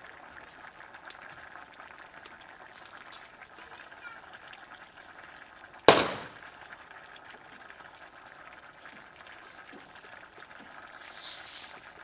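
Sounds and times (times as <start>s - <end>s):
curry bubbling in pot: 0.0s - 12.0s.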